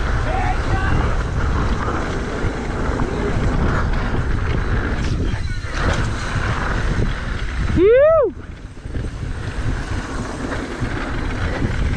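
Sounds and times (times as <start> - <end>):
bike tyres rolling on dirt: 0.0 - 11.9
wind rushing over microphone: 0.0 - 11.9.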